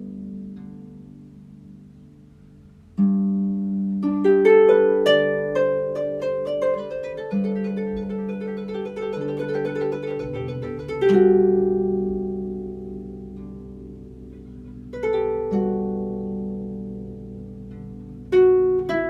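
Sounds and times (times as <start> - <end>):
harp music: 0.0 - 19.0.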